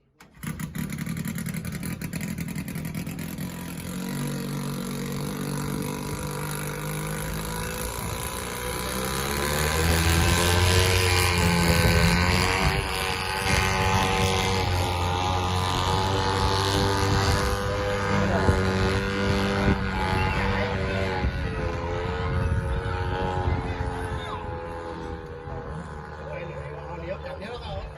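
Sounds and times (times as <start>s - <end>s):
boat engine revving: 0.2s - 27.9s.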